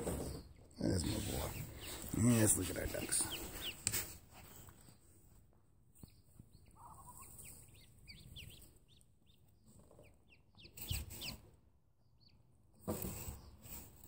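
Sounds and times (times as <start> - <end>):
ducklings peeping: 0.0 - 14.0.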